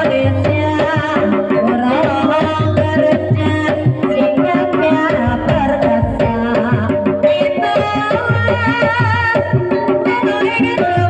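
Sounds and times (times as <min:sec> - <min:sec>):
hand drums playing fast patterns: 0:00.0 - 0:11.0
ringing pitched percussion: 0:00.0 - 0:11.0.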